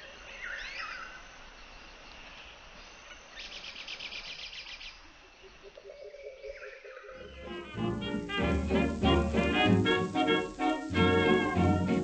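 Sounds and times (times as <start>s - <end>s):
fast pulsing bird trill: 0.0s - 12.0s
steady background hiss: 0.0s - 12.0s
swooping whistled bird calls: 0.0s - 12.0s.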